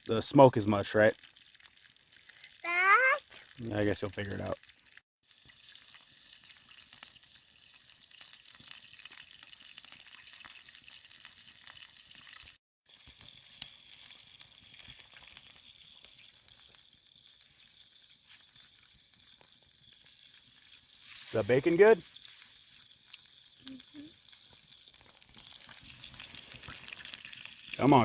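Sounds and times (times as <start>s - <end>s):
bacon sizzling: 0.8s - 28.0s
fire popping and crackling: 1.1s - 3.2s, 5.8s - 11.4s, 13.0s - 28.0s.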